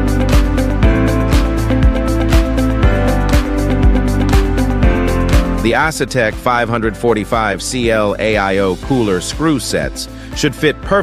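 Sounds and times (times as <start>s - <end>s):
held chords: 0.0s - 11.0s.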